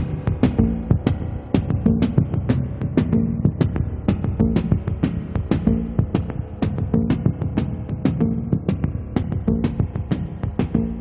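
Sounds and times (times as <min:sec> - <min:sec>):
fast drum beat music: 0:00.0 - 0:11.0.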